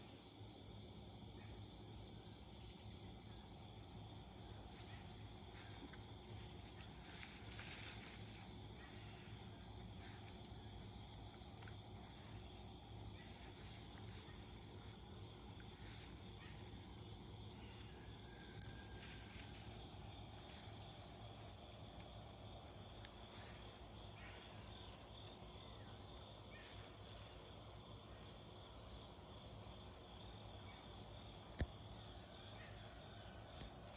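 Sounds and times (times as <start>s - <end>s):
crickets chirping: 0.0s - 33.9s
high insect trill: 0.1s - 33.9s.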